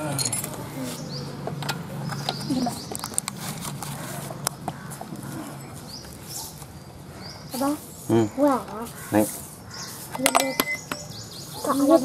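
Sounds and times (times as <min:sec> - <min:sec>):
high falling bird chirps: 0:00.8 - 0:12.0.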